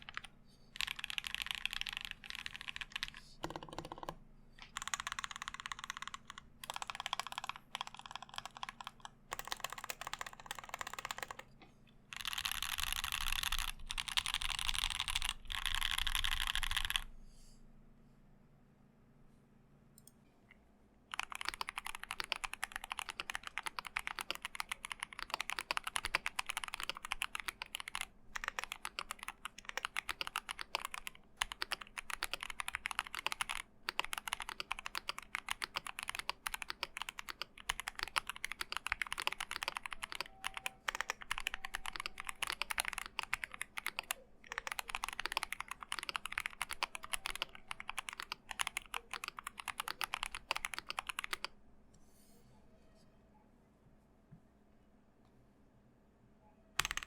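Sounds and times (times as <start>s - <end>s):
mechanical keyboard typing: 0.0s - 11.5s, 12.1s - 17.1s, 21.1s - 51.5s, 56.8s - 57.0s
faint steady background hum: 0.0s - 57.0s.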